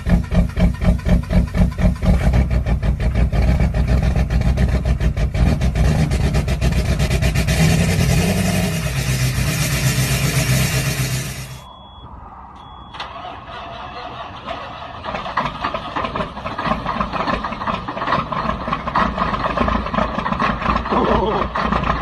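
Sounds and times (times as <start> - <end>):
diesel engine running: 0.0 - 11.8, 12.6 - 22.0.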